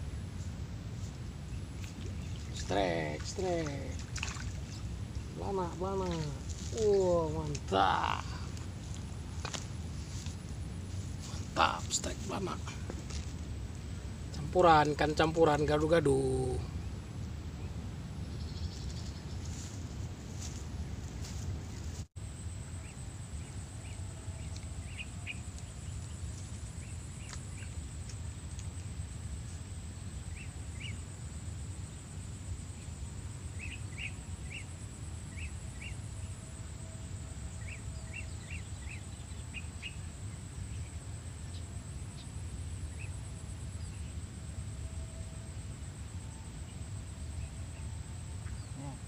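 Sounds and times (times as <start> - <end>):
low wind rumble: 0.0 - 49.0.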